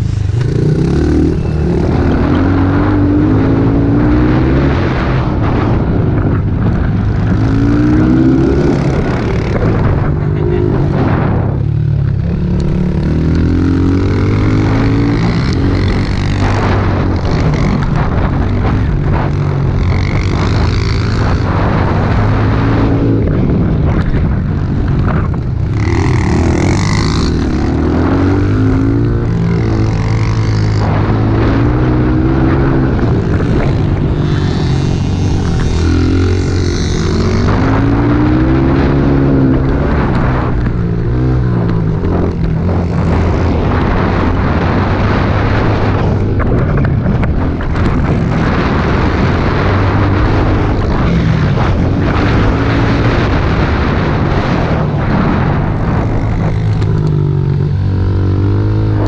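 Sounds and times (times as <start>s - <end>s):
pit bike engine revving: 0.0s - 59.0s
wind and riding noise: 0.0s - 59.0s.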